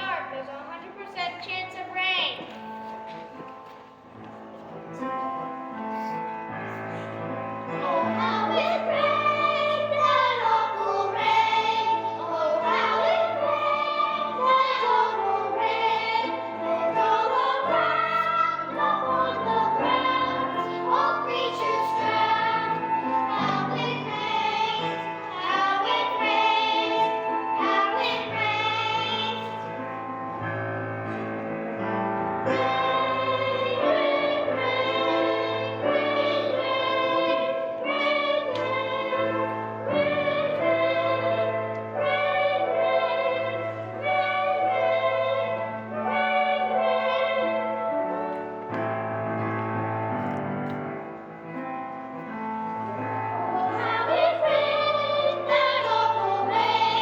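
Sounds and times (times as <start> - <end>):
children's choir singing: 4.8 - 57.0.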